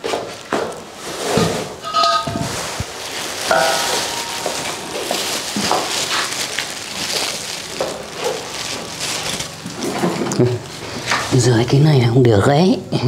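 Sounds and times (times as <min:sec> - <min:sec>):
dense crackling and rustling: 0:00.0 - 0:12.1.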